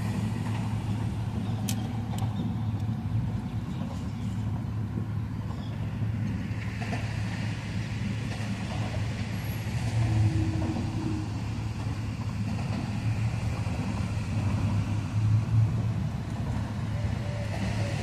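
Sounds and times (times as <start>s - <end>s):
traffic rumble on bridge: 0.0s - 18.0s.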